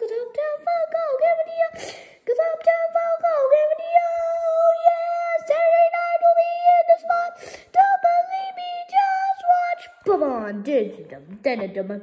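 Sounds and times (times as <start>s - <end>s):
child singing a high note: 0.0s - 10.1s.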